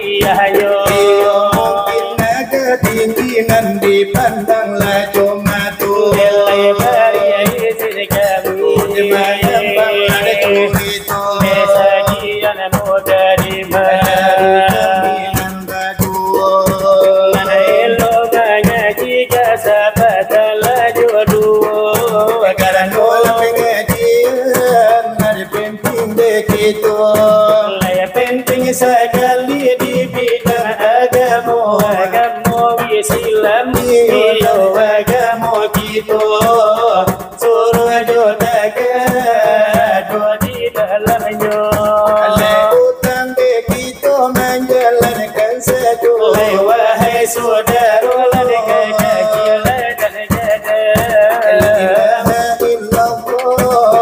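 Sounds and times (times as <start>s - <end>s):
hands beating brass trays: 0.0s - 54.0s
men singing devotional chant: 0.0s - 54.0s.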